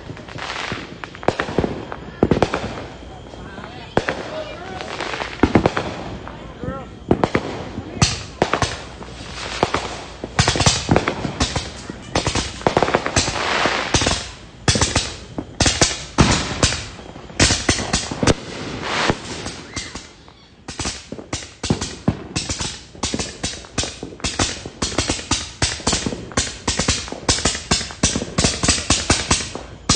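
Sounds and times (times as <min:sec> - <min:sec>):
fireworks and firecrackers banging: 0:00.0 - 0:29.9.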